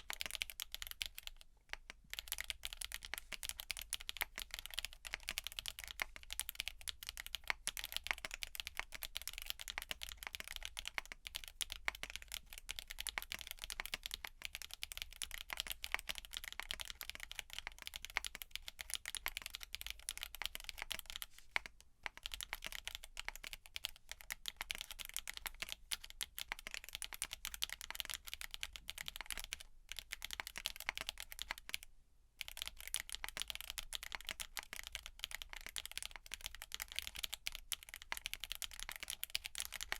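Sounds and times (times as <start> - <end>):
clacky mechanical keyboard typing: 0.0 - 21.2, 22.0 - 31.8, 32.4 - 39.9.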